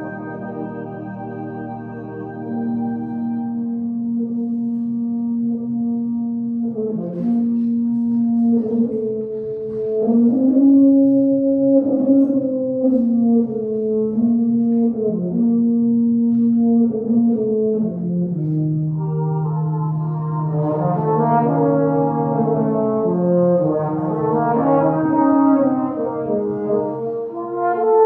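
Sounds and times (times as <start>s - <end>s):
brass band playing chords: 0.0s - 28.0s.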